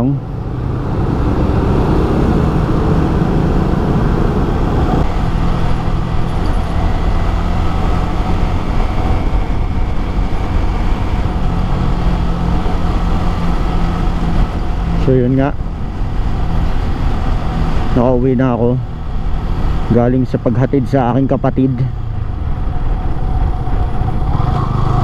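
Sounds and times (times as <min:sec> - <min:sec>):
motorcycle engine cruising: 0:00.0 - 0:25.0
wind buffeting microphone: 0:00.3 - 0:18.3, 0:21.9 - 0:25.0.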